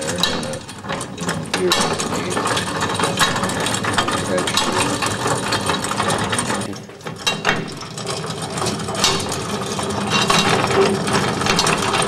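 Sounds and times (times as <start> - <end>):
gearing clattering and clicking: 0.0 - 12.0.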